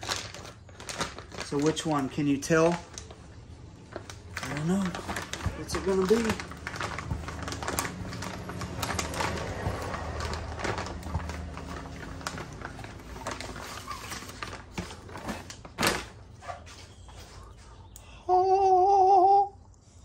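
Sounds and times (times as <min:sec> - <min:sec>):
packing peanuts rustling: 0:00.0 - 0:16.3
plastic bag crinkling: 0:00.0 - 0:16.3.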